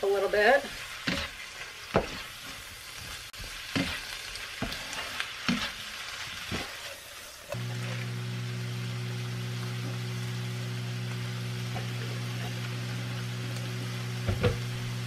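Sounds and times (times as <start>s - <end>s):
vegetables sizzling in a skillet: 0.0s - 15.0s.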